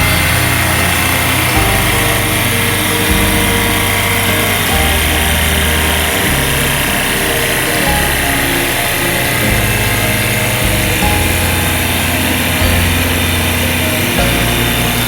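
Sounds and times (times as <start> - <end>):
music with deep bass line: 0.0 - 15.0
steady dense hiss: 0.0 - 15.0.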